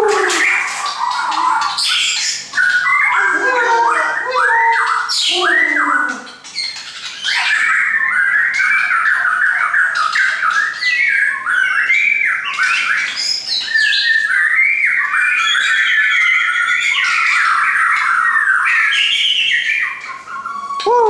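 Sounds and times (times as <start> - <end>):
bird singing whistled phrases: 0.0 - 21.0.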